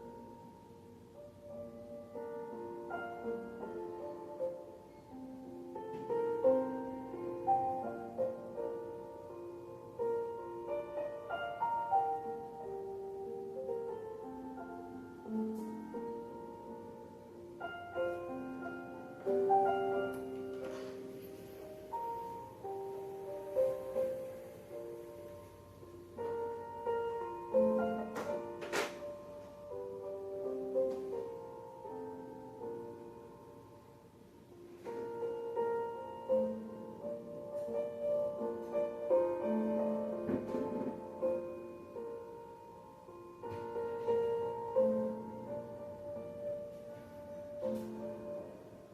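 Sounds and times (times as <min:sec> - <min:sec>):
slow piano music: 0:00.0 - 0:48.9.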